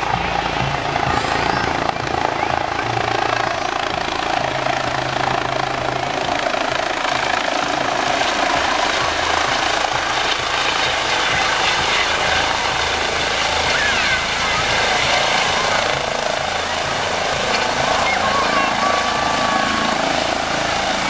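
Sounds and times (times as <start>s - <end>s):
helicopter rotor and engine: 0.0s - 21.0s.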